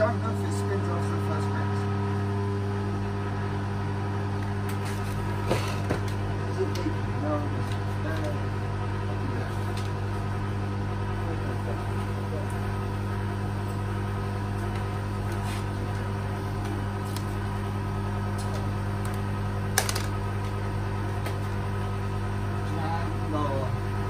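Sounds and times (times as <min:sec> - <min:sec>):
drain pump humming: 0:00.0 - 0:24.0.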